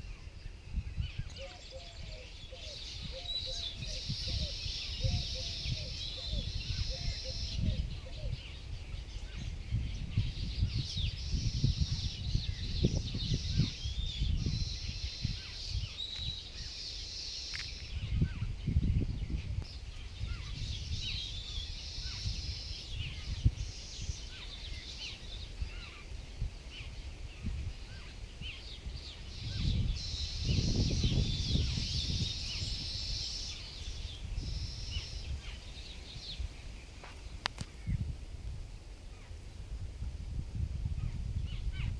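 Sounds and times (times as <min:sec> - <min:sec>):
small birds chirping and trilling: 0:00.0 - 0:38.1.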